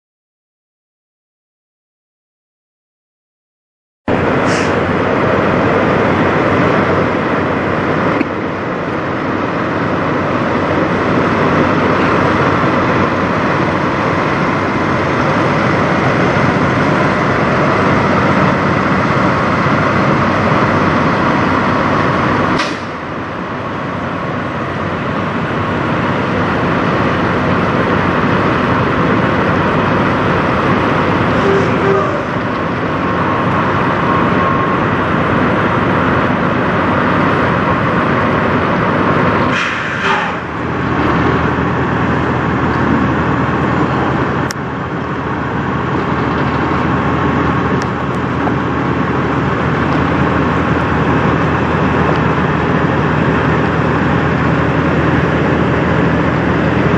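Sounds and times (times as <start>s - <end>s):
truck diesel engine driving away: 4.1s - 56.9s.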